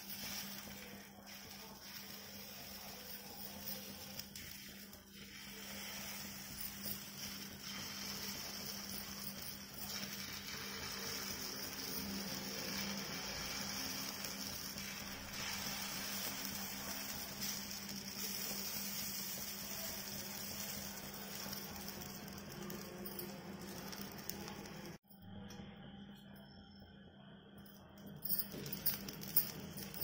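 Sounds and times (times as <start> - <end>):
batter sizzling on hot pan: 0.0 - 25.0.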